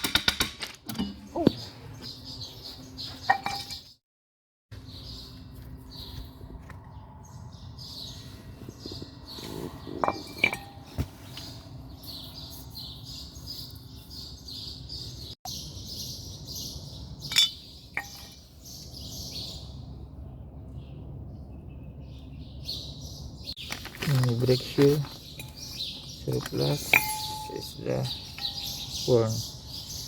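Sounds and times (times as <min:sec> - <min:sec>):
birds chirping: 0:01.0 - 0:04.0, 0:04.8 - 0:30.0.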